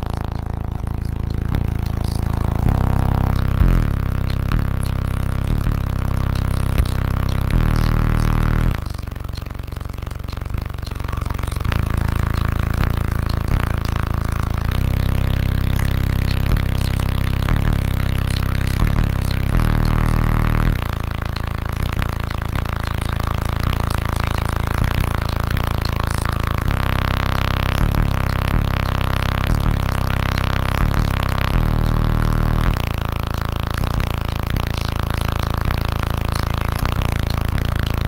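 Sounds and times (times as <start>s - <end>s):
loud bass-heavy music: 0.0s - 38.0s.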